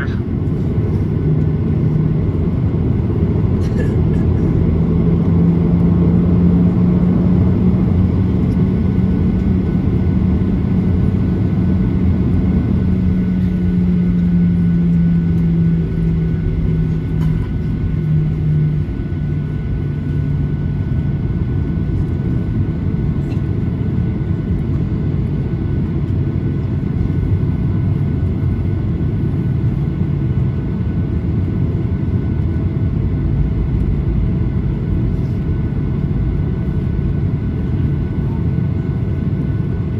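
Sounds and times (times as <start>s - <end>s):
airplane cabin rumble: 0.0s - 39.9s
low hum: 0.0s - 39.9s.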